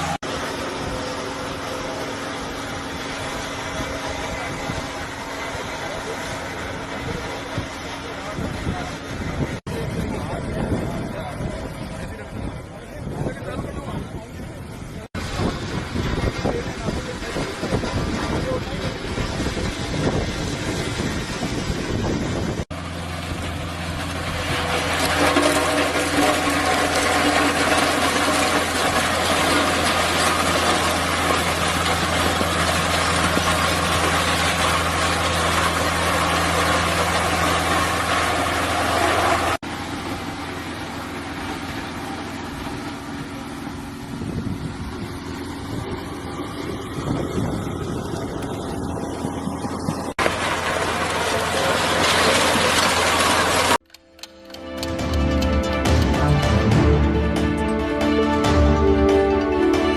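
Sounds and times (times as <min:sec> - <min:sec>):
broad rough noise: 0:00.0 - 0:59.9
road roller engine running: 0:00.0 - 0:59.9.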